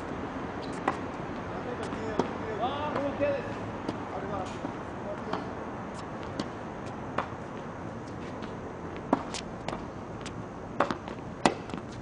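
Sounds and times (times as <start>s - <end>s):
outdoor background noise: 0.0s - 12.0s
tennis balls bouncing on hard court: 0.6s - 12.0s
tennis balls struck by rackets: 0.6s - 12.0s.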